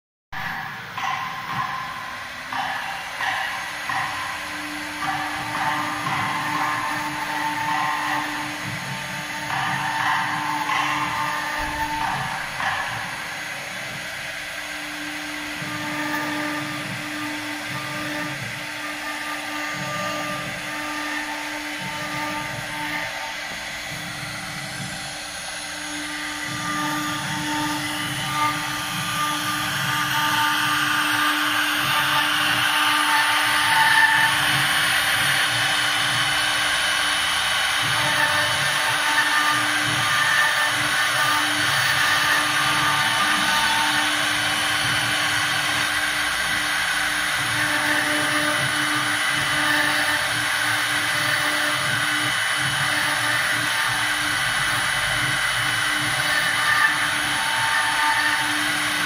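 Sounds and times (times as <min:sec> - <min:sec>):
router spindle whine: 0:00.4 - 0:59.0
bit carving wood: 0:02.5 - 0:13.7, 0:14.6 - 0:59.0.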